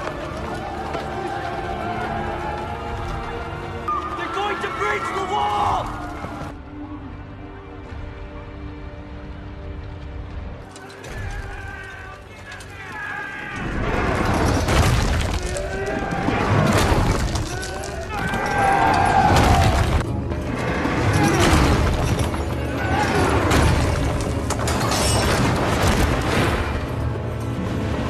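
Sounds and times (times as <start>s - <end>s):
dramatic music: 0.0s - 28.0s.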